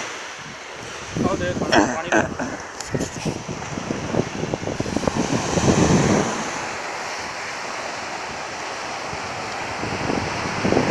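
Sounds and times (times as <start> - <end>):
surf washing onto beach: 0.0 - 10.9
wind rumble on microphone: 0.2 - 10.9.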